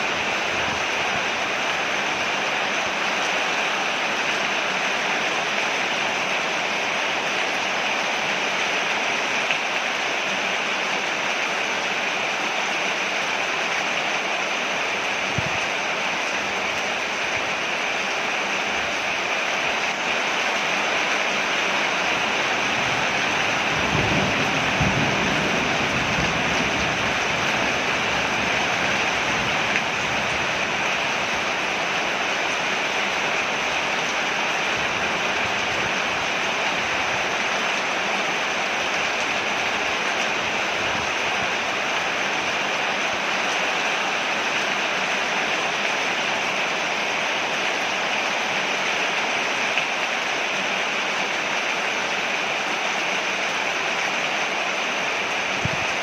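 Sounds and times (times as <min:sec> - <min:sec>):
rain falling on a porch: 0:00.0 - 0:56.0.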